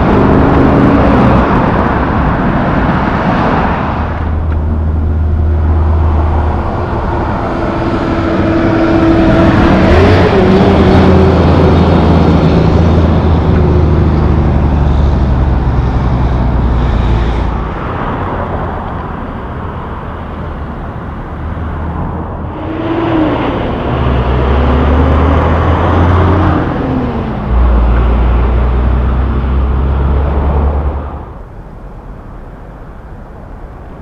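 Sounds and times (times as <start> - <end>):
vehicle passing: 0.0 - 31.5
truck diesel engine passing: 0.0 - 34.0.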